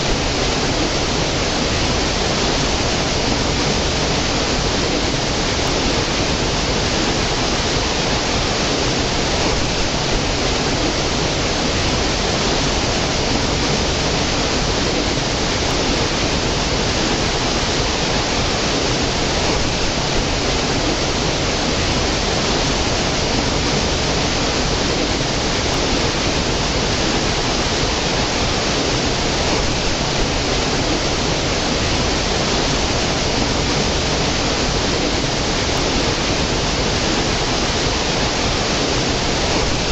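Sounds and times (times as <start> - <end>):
stream cascading over rocks: 0.0 - 39.9.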